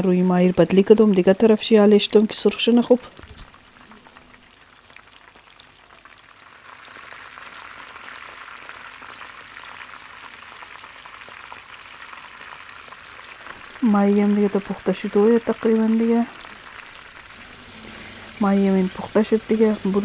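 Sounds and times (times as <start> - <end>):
fish sizzling in hot oil: 0.0 - 20.0
oil crackling: 0.0 - 20.0.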